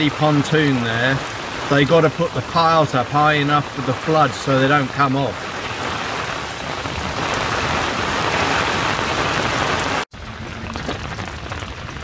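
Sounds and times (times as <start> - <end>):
heavy rain pouring: 0.0 - 12.0
light rain: 0.0 - 12.0.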